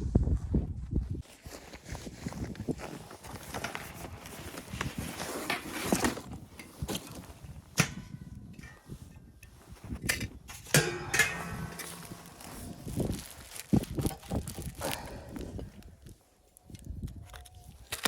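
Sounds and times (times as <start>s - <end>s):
rustling and crunching: 1.2s - 18.0s.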